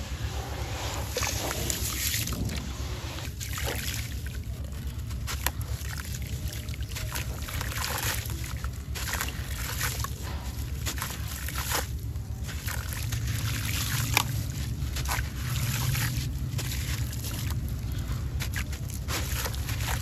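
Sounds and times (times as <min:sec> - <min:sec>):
water sloshing in tub: 0:00.0 - 0:20.0
grit pattering into water: 0:01.0 - 0:20.0
small sharp splashes: 0:03.2 - 0:20.0.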